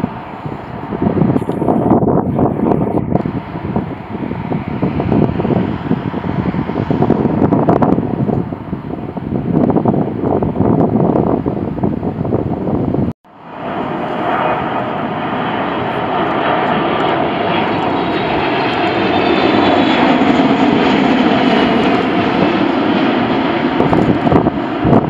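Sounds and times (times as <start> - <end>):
high engine whine: 0.0 - 25.0
jet engines rumbling: 0.0 - 25.0.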